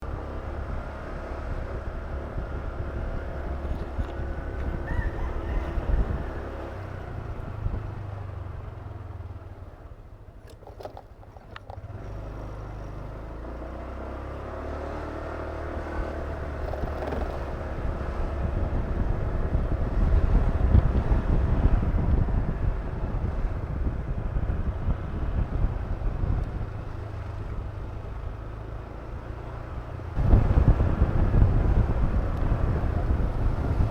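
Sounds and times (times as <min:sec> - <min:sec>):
low wind rumble: 0:00.0 - 0:13.4, 0:14.2 - 0:33.9
scooter engine running: 0:00.0 - 0:33.9.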